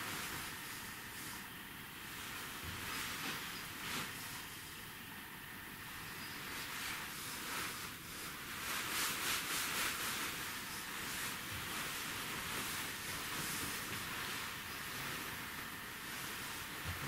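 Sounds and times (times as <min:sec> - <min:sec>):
soft rustling: 0:00.0 - 0:05.0, 0:05.7 - 0:17.0
steady hiss: 0:00.0 - 0:17.0.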